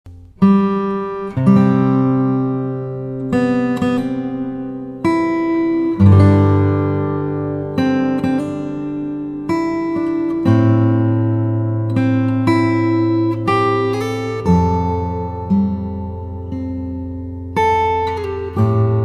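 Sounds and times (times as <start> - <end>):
acoustic guitar chords strummed: 0.1 - 19.0.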